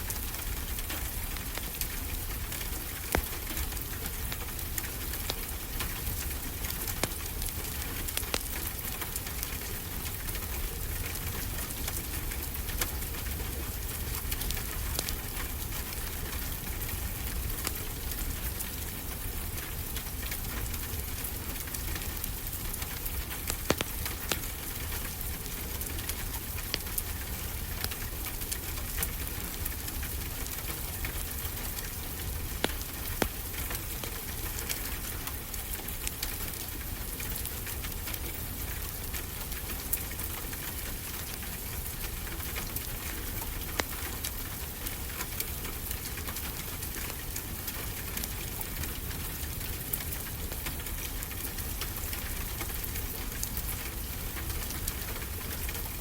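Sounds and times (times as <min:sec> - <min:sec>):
steady rain: 0:00.0 - 0:56.0
wood fire crackling and popping: 0:00.0 - 0:56.0.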